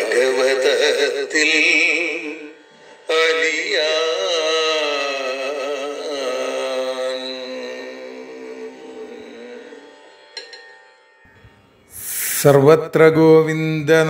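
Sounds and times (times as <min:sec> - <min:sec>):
man singing devotional song: 0:00.0 - 0:10.0, 0:11.9 - 0:14.0.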